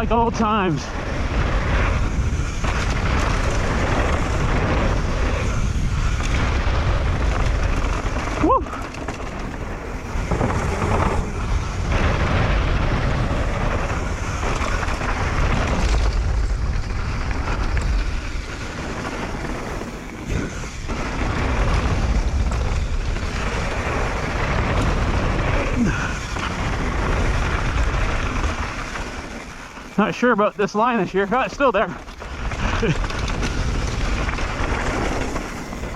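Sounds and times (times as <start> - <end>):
bike tyres rumbling on dirt: 0.0 - 35.9
wind buffeting microphone: 0.0 - 35.9.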